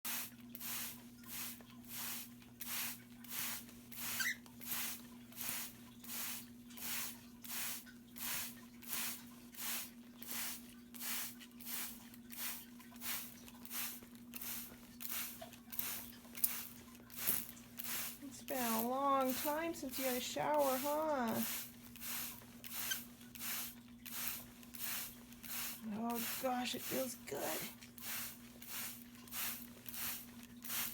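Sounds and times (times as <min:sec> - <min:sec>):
spray bottle squirts: 0:00.1 - 0:30.9.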